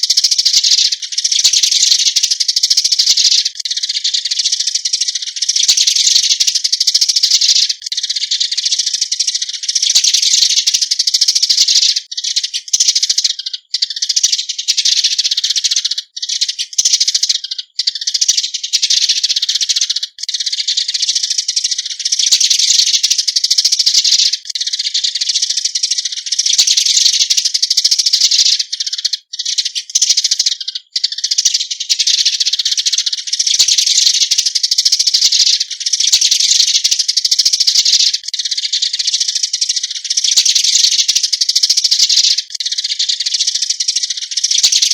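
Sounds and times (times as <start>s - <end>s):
sparrow flock chirping: 0.0s - 44.9s.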